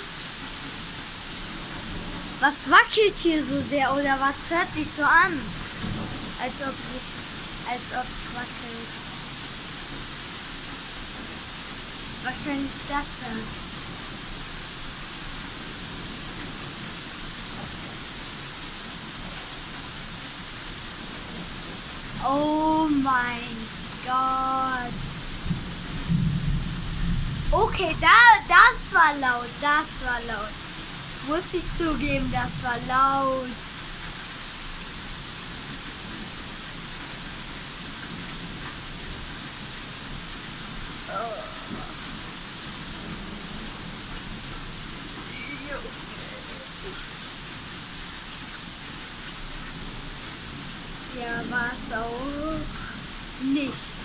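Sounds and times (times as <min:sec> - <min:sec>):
heavy rain downpour: 0:00.0 - 0:54.0.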